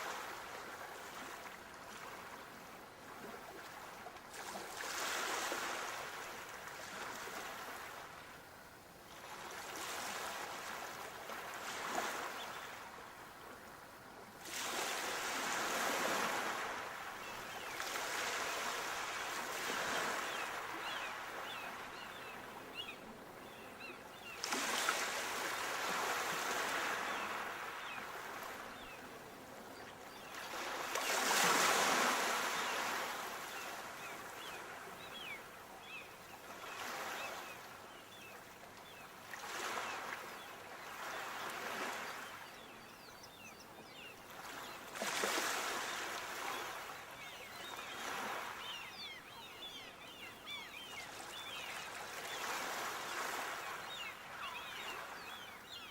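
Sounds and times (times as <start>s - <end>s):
sea waves breaking on shore: 0.0s - 8.5s, 9.1s - 55.9s.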